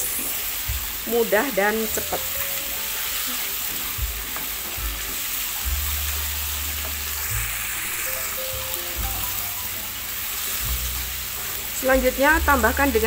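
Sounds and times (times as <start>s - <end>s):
faint background music: 0.0s - 13.0s
food sizzling in oil: 0.0s - 13.0s.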